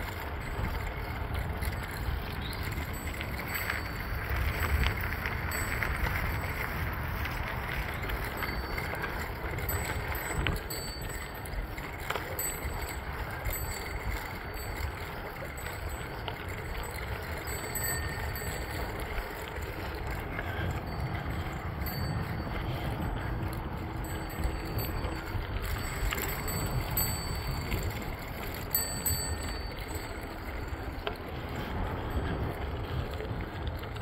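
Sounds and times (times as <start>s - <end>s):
bicycle tyres rolling on gravel: 0.0s - 34.0s
wind rumbling on microphone: 0.0s - 34.0s.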